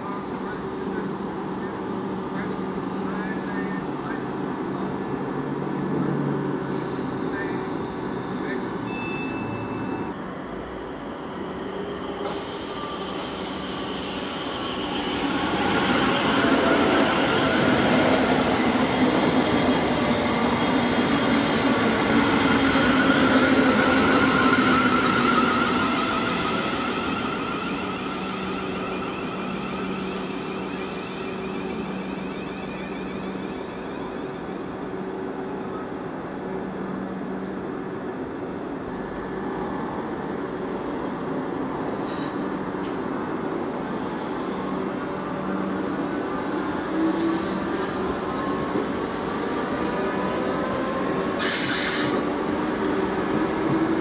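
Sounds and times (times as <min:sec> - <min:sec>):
electric train passing: 0:00.0 - 0:37.6, 0:38.7 - 0:54.0.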